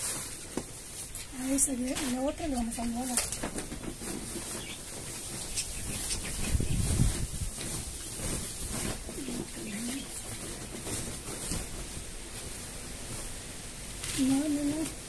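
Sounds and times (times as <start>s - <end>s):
hands working in potting soil: 0.0s - 15.0s.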